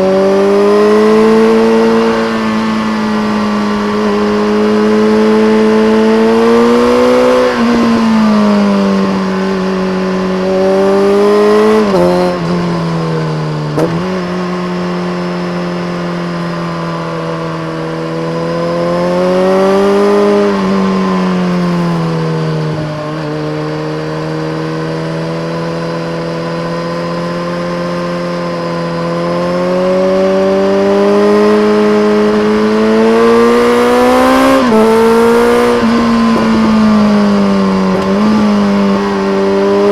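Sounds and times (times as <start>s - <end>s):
gear changes: 0.0s - 39.9s
motorcycle engine revving: 0.0s - 39.9s.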